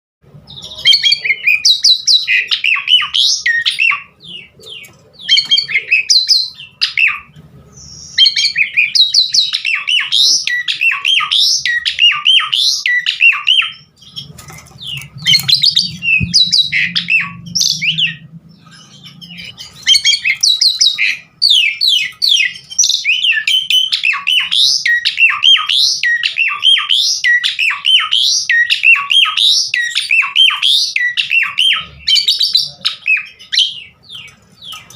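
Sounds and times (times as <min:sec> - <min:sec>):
starling singing: 0:00.3 - 0:34.9.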